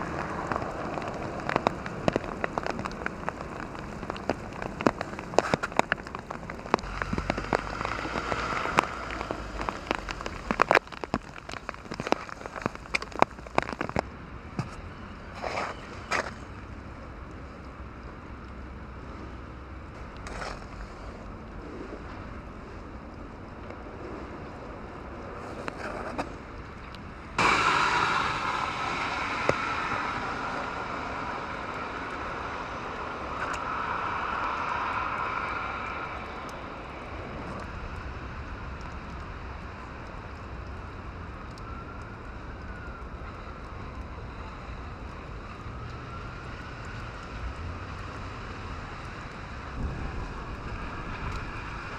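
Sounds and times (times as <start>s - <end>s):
traffic tyres hissing on wet road: 0.0s - 51.9s.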